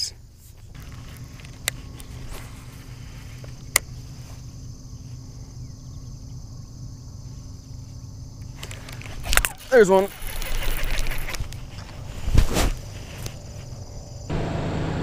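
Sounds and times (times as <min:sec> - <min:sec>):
insects chorus: 0:00.0 - 0:14.9.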